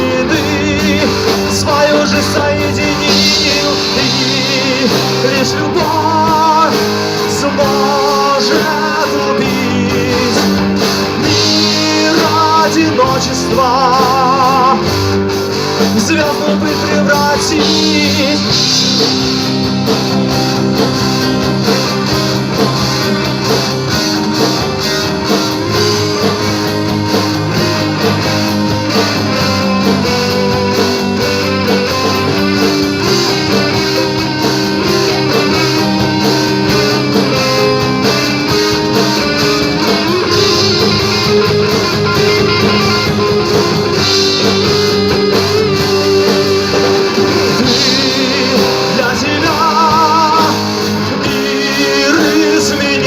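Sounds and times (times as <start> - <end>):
electric guitars: 0.0 - 53.0
steady drum beat: 0.0 - 53.0.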